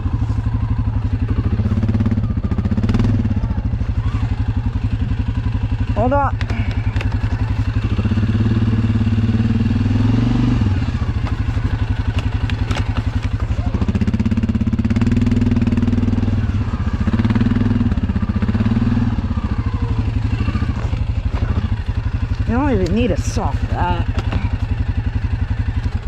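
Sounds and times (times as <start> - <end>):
engine putter at low revs: 0.0 - 26.0.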